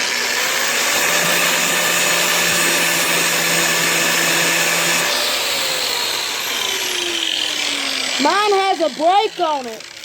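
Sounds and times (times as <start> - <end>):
angle grinder whining: 0.0 - 10.0.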